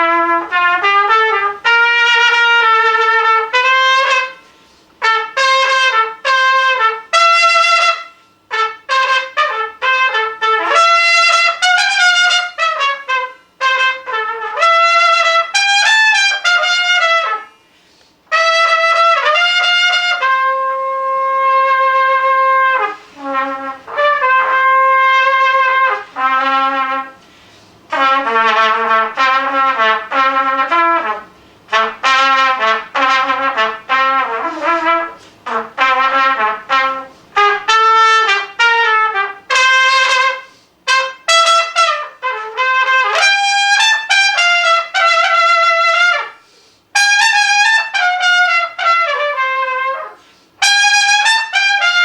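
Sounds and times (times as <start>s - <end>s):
trumpet solo: 0.0s - 17.6s, 18.2s - 27.3s, 27.9s - 52.0s.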